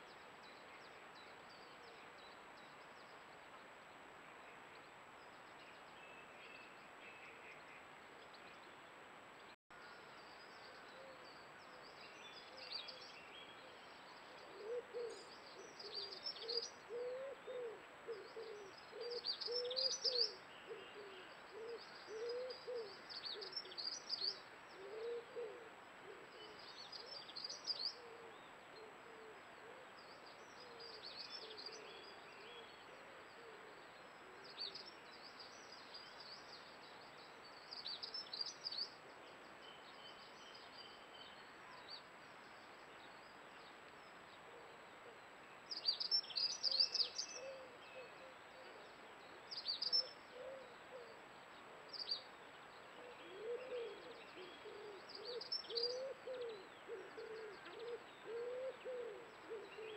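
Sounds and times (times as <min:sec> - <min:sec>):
soft low bird calls: 0:09.8 - 0:59.9.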